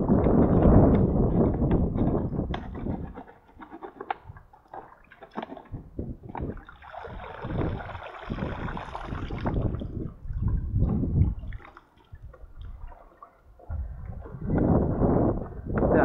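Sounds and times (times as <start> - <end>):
water pouring from bottle: 0.0 - 15.6
water splashing and sloshing: 0.0 - 16.0.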